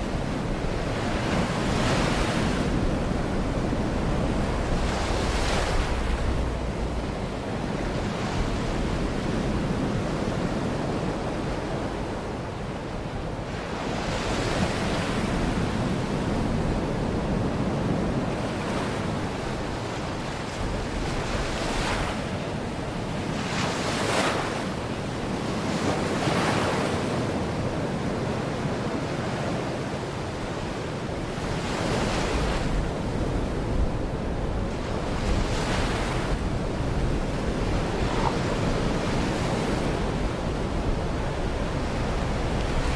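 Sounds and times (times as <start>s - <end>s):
sea waves breaking on shore: 0.0s - 12.8s, 13.4s - 42.9s
wind rumble on microphone: 0.0s - 42.9s.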